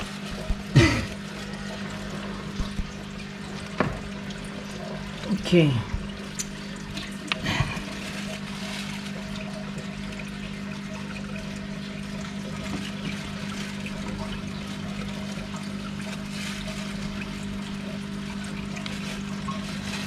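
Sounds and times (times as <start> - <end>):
aquarium water trickling and bubbling: 0.0 - 20.0
low pump hum: 0.0 - 20.0.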